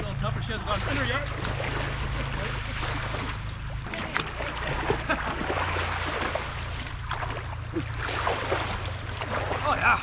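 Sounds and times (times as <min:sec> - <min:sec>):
sea water splashing and sloshing: 0:00.0 - 0:10.0.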